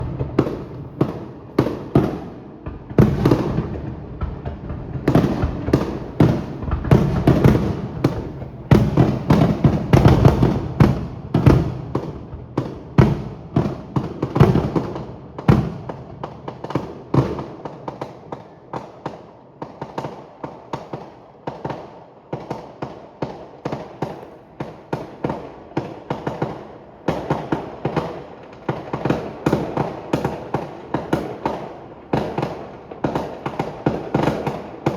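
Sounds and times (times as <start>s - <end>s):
fireworks banging and popping: 0.0s - 34.9s.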